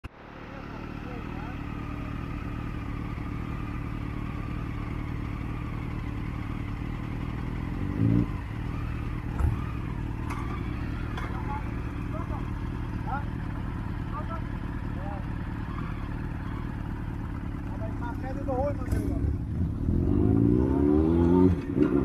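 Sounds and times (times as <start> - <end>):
motorcycle engines idling: 0.0 - 22.0.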